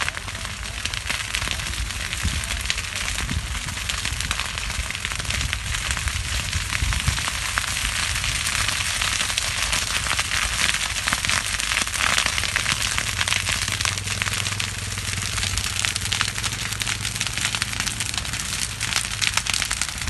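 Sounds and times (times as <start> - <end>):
burning field crackling and popping: 0.0 - 20.0
low rumble of flames: 0.0 - 20.0.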